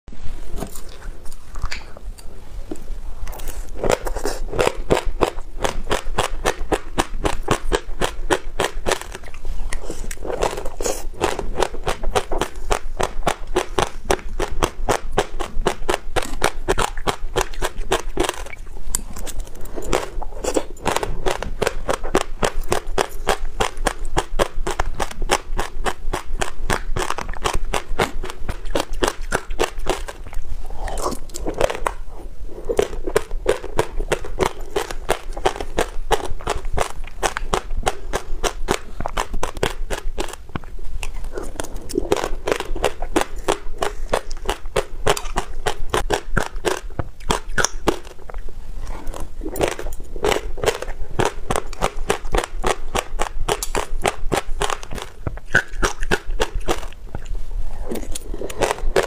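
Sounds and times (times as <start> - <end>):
close chewing with crisp crunches: 0.5 - 59.0.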